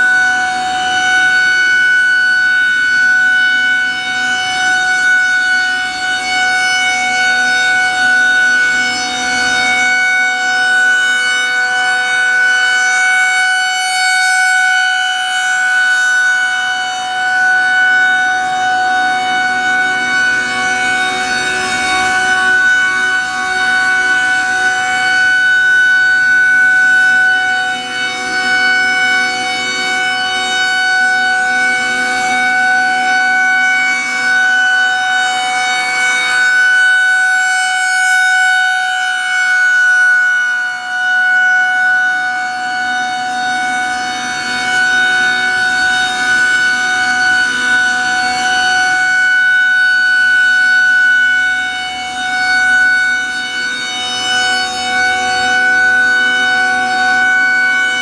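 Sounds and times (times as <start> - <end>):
rotating warning siren steady tone: 0.0 - 58.0.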